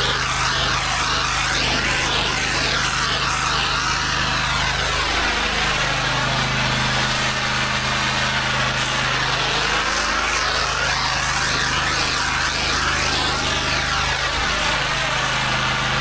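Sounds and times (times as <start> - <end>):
high-pressure water spraying: 0.0 - 16.0
pressure washer engine running: 0.0 - 16.0.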